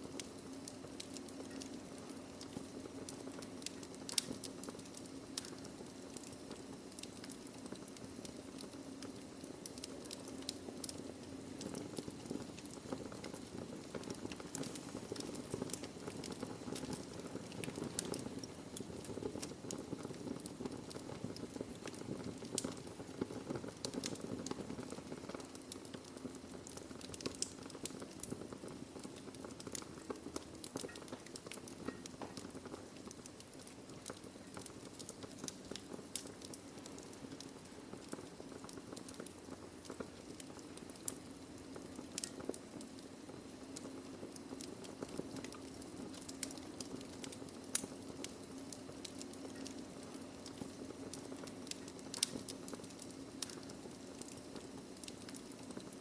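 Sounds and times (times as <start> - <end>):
fire hissing: 0.0 - 56.0
logs crackling and popping: 0.0 - 56.0.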